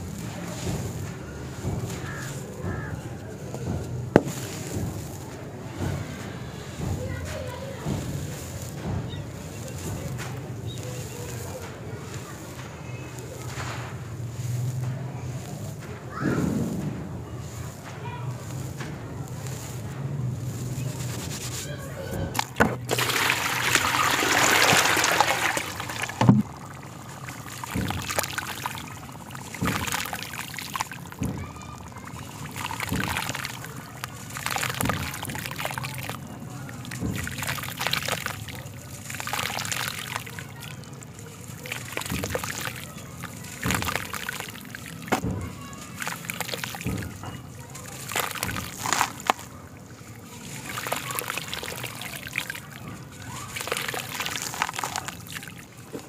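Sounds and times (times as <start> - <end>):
sand lumps falling into water: 0.0 - 56.0
water pouring and splashing: 0.0 - 56.0.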